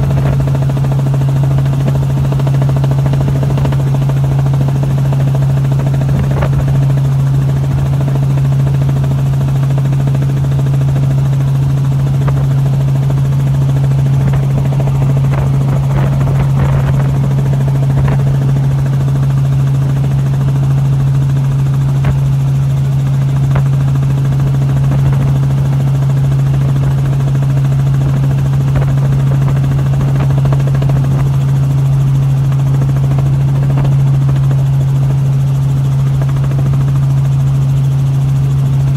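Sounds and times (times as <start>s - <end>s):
drone rotors humming: 0.0s - 31.4s.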